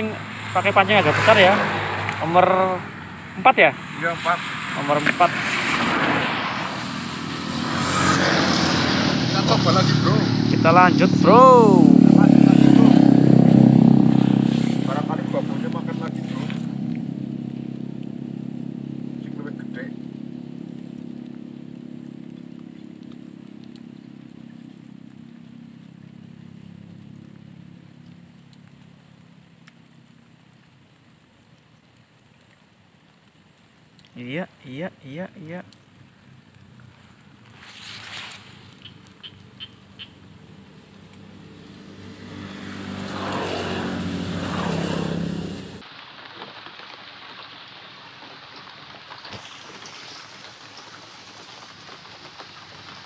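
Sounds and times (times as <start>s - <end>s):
vehicle engine humming: 0.0s - 31.7s, 33.8s - 45.9s.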